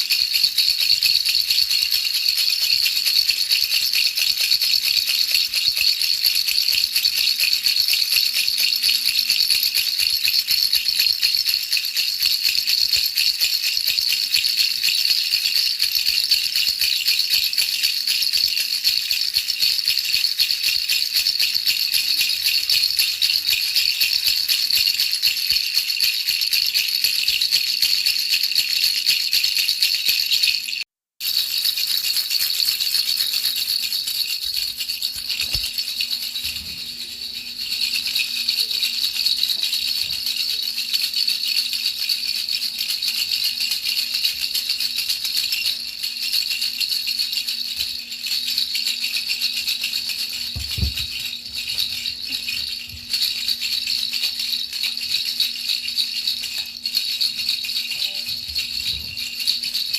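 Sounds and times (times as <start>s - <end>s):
baby rattle shaking: 0.0s - 59.9s.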